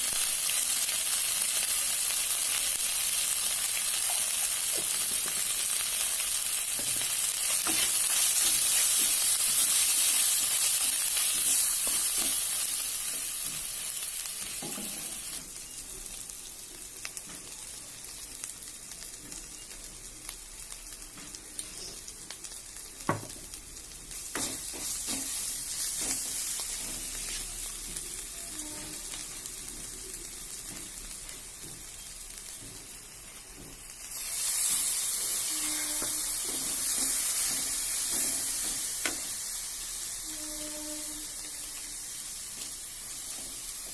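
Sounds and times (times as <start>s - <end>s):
oil sizzling in a pan: 0.0s - 43.9s.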